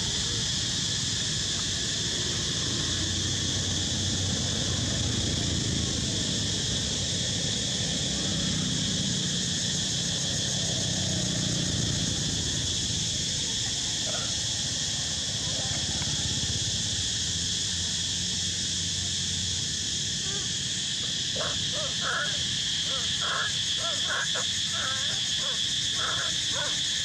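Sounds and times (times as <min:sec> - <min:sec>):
insects buzzing: 0:00.0 - 0:27.0.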